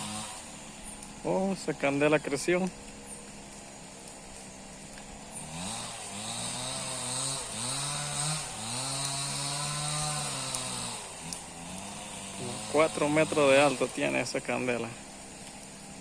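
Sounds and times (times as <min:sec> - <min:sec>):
chainsaw cutting branches: 0:00.0 - 0:16.0.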